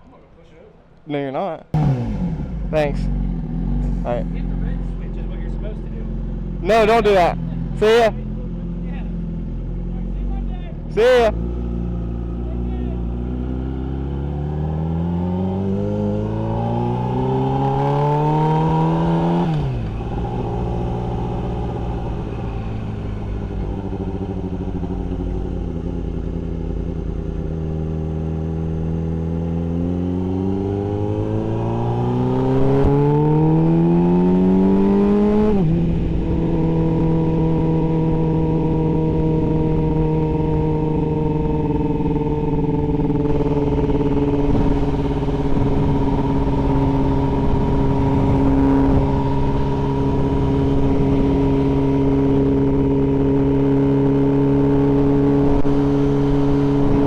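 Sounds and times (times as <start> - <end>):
motorcycle engine accelerating: 1.7 - 57.0.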